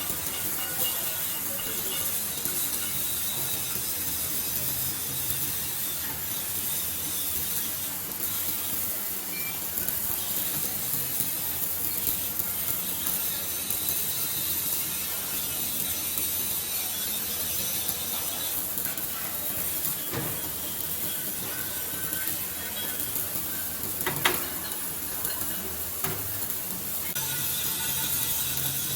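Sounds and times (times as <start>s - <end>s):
welding arc crackling hiss: 0.0s - 28.9s.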